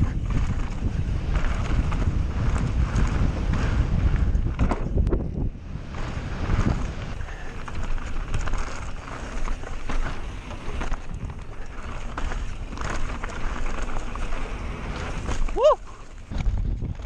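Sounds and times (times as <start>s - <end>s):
bike knocks and rattles: 0.0s - 17.0s
tyres rolling over dirt: 0.0s - 17.0s
wind buffeting microphone: 0.0s - 17.0s.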